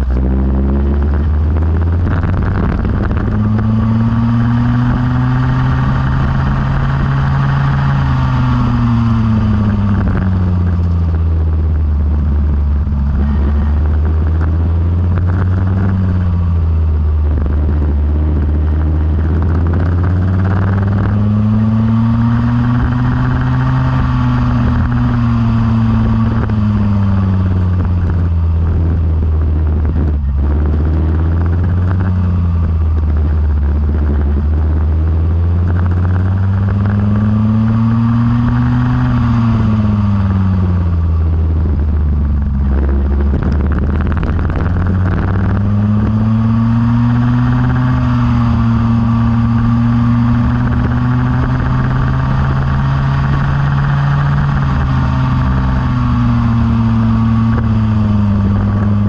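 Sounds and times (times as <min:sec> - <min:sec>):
go-kart engine revving: 0:00.0 - 0:59.0
low drone: 0:00.0 - 0:59.0.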